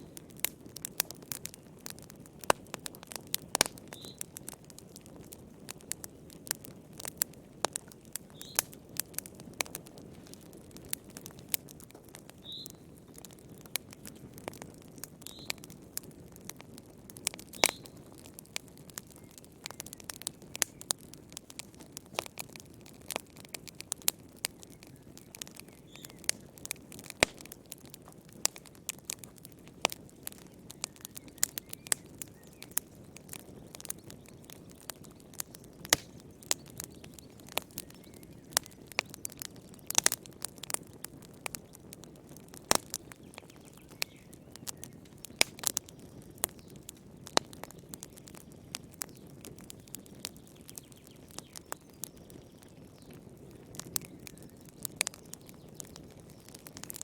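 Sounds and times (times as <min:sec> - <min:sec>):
low rush of flames: 0:00.0 - 0:57.0
sharp pops and snaps: 0:00.0 - 0:57.0
wood fire crackling: 0:00.0 - 0:57.0.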